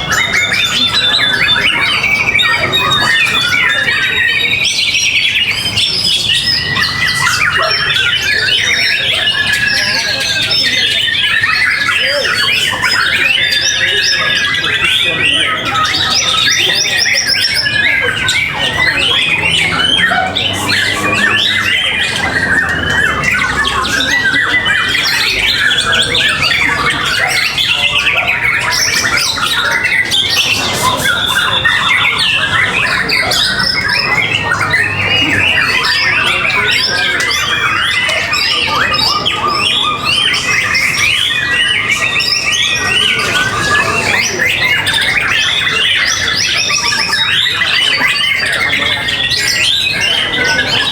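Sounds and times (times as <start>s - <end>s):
chorus of songbirds chirping: 0.0s - 50.9s.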